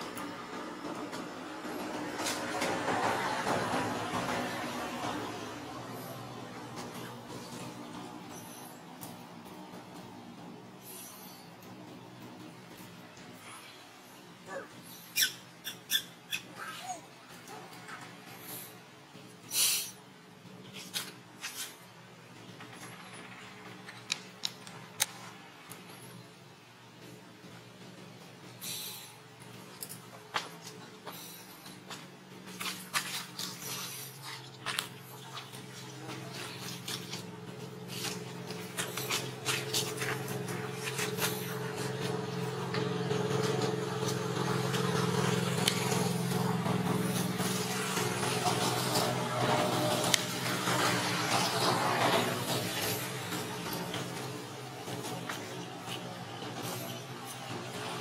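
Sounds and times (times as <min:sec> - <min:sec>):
low engine-like hum: 0:00.0 - 0:58.0.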